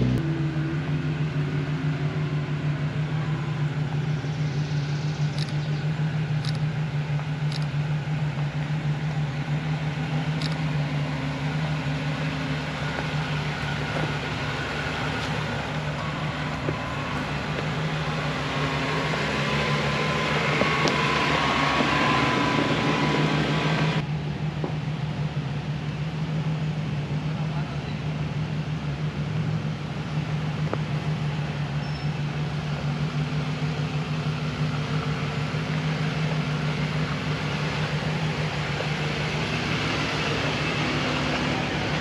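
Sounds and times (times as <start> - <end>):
car engine running at low revs: 0.0 - 42.0
rising engine whine: 0.0 - 42.0.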